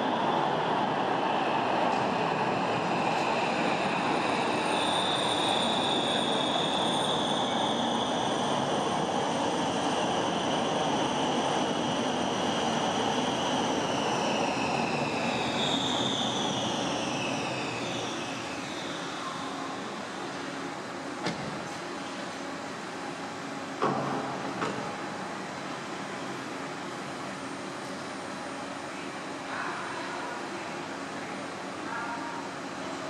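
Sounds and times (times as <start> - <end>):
light-rail train braking: 0.0 - 33.0.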